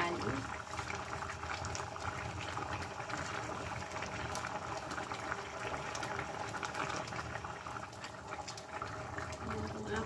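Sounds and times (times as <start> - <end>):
sauce bubbling and popping: 0.0 - 10.0.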